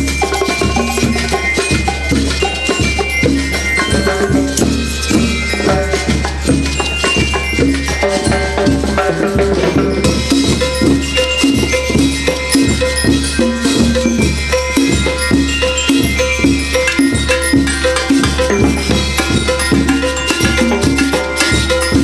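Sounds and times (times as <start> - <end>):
bell lyres playing melody: 0.0 - 22.0
drums and congas: 0.0 - 22.0
shaker percussion: 0.0 - 22.0.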